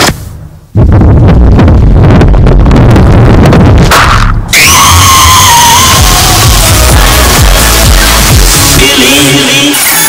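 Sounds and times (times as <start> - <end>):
distorted bass-boosted eating sounds: 0.0 - 9.2
loud distorted held tone: 0.0 - 10.0.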